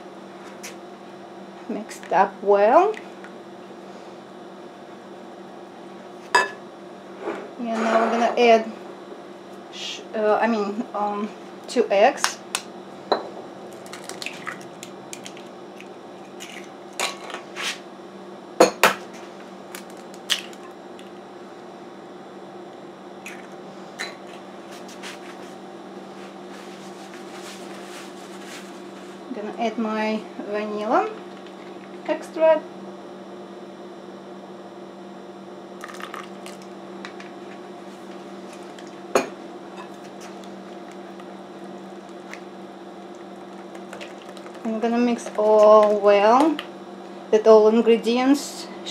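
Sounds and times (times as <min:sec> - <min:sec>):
low electrical hum: 0:00.0 - 0:48.9.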